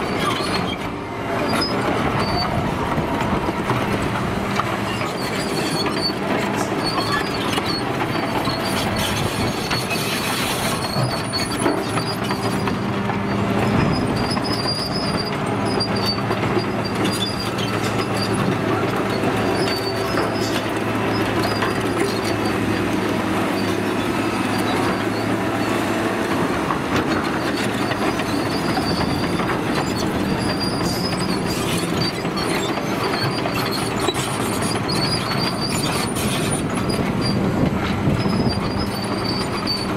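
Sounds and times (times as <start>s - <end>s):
crawler tracks clanking and squealing: 0.0s - 39.9s
diesel engine running: 0.0s - 39.9s.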